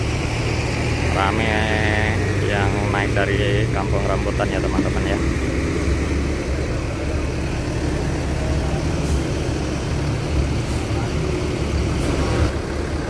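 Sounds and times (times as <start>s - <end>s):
bus diesel engine idling: 0.0s - 13.0s.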